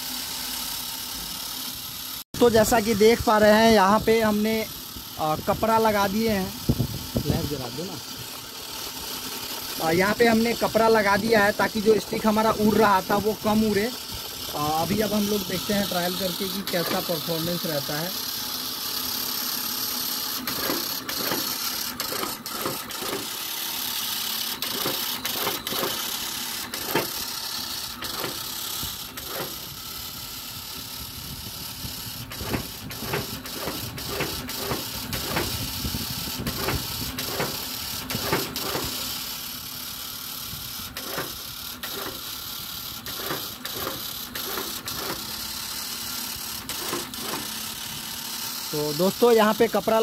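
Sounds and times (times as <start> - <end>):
machine whirring: 0.0 - 50.0.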